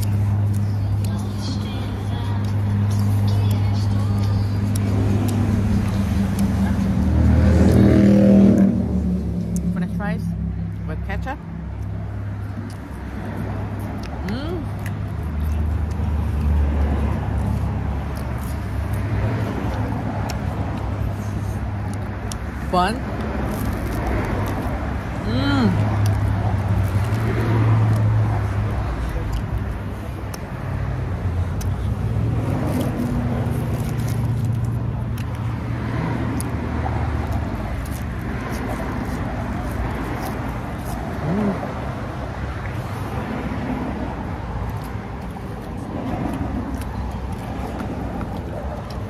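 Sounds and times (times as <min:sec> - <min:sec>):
low outdoor rumble: 0:00.0 - 0:49.0
vehicle engine hum: 0:00.0 - 0:49.0.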